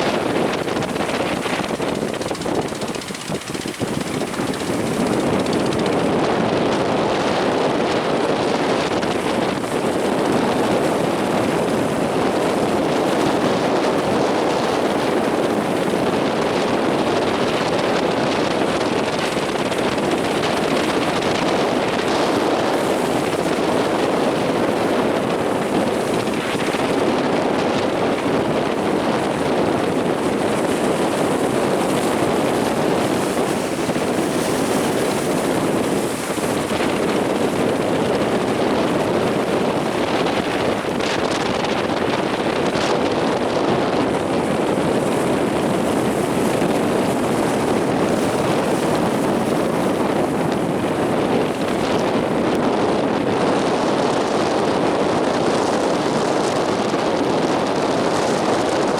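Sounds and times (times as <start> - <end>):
heavy surf rushing: 0.0 - 58.9
wind blowing across microphone: 0.0 - 58.9.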